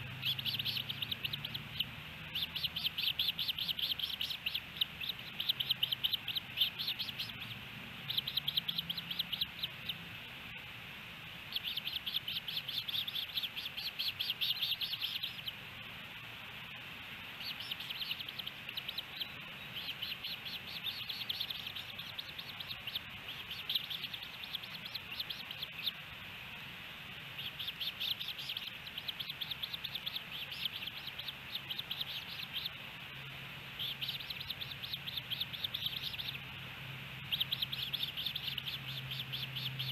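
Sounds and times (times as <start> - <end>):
ospreys whistled chirps: 0.0 - 10.0, 11.5 - 15.6, 17.2 - 26.2, 27.3 - 36.5, 37.2 - 39.9.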